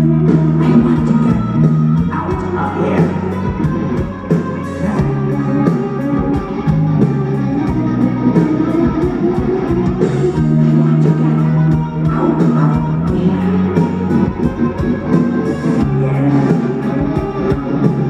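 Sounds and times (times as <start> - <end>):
electric guitars: 0.0 - 18.0
live rock band playing: 0.0 - 18.0.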